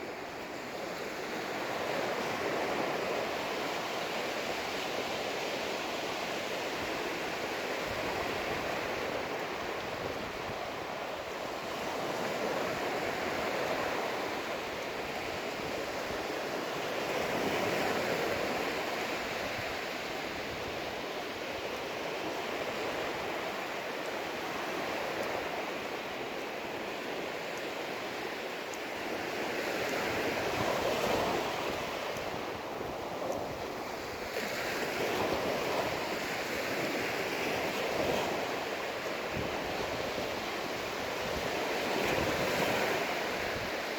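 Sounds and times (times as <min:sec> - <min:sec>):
surf washing onto sand: 0:00.0 - 0:43.9.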